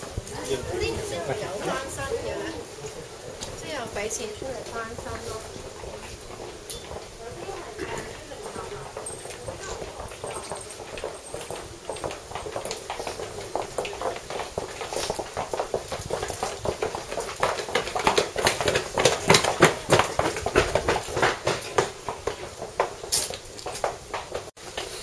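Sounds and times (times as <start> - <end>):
footsteps on stone path: 0.0 - 25.0.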